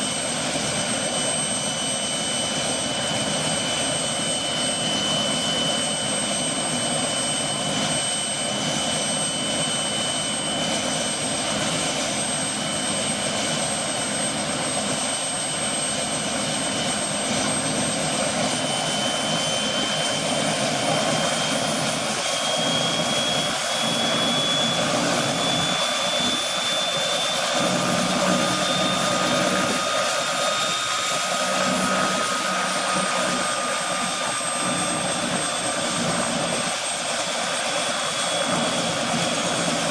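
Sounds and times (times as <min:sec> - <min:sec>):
helicopter turbine whine: 0:00.0 - 0:39.9
low rotor tone: 0:06.7 - 0:39.9.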